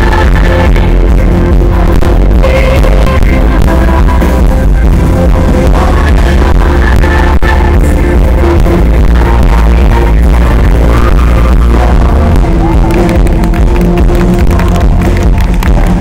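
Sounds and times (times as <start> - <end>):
heavy bass: 0.0 - 16.0.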